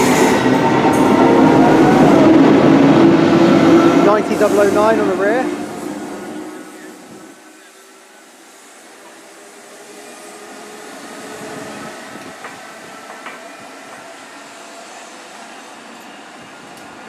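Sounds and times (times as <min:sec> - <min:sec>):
electric locomotive whine: 0:00.0 - 0:17.0
train running noise: 0:00.0 - 0:17.0.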